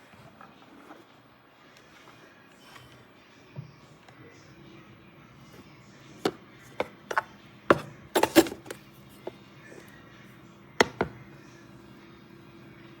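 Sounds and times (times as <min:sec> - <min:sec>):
faint steady hum: 0:01.2 - 0:13.0.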